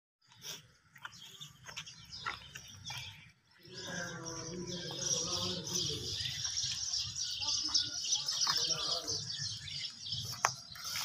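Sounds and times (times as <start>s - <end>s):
chorus of birds chirping: 0.2s - 11.0s.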